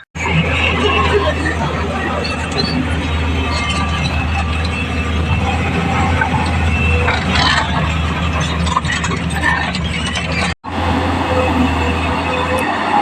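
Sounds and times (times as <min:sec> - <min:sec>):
metallic clanks and squeaks: 0:00.0 - 0:10.6
excavator diesel engine running: 0:00.0 - 0:13.0.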